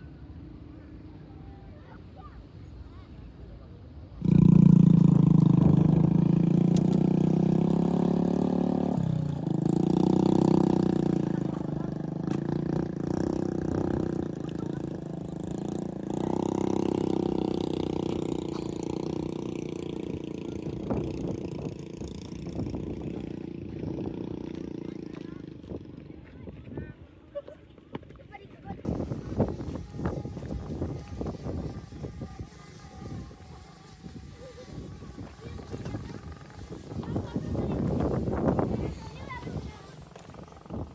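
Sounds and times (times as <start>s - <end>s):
motorbike engine running: 4.2s - 26.6s, 28.8s - 40.9s.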